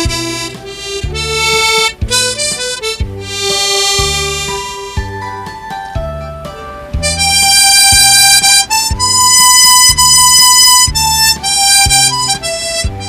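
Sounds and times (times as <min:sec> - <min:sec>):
backing track with steady beat: 0:00.0 - 0:13.0
harmonica melody: 0:00.0 - 0:13.0.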